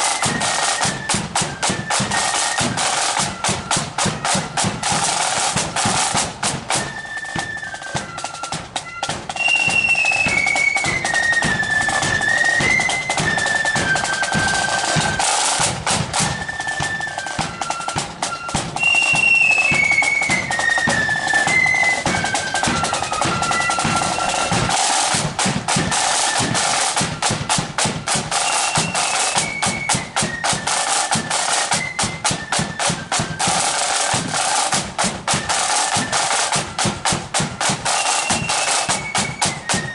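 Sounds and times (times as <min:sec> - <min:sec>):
flute tune: 0:00.0 - 0:39.9
snare drum rolls: 0:00.0 - 0:39.9.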